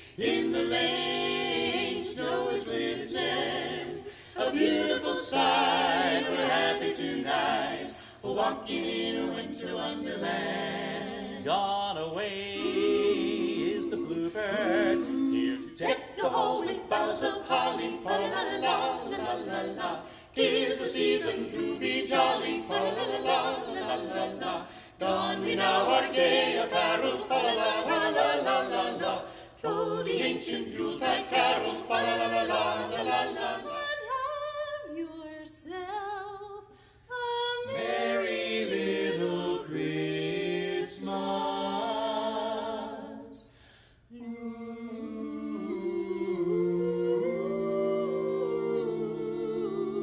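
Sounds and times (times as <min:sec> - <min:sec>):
vocal quartet singing carols: 0:00.0 - 0:50.0.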